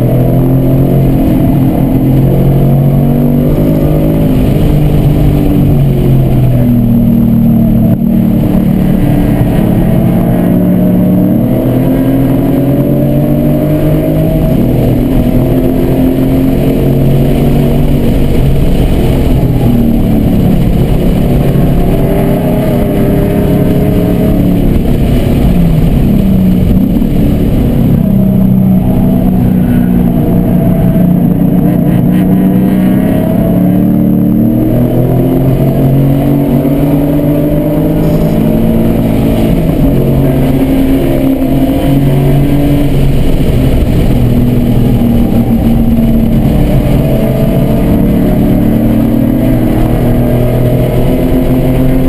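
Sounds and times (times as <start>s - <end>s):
car engine revving at speed: 0.0s - 52.0s.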